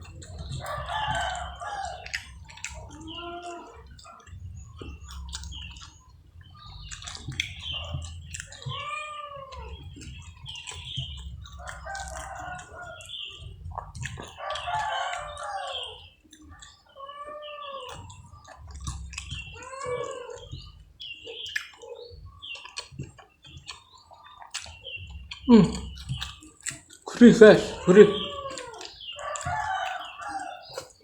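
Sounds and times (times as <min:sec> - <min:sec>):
animal calls: 0:00.0 - 0:31.0
chewing and lip-smacking: 0:00.0 - 0:31.0.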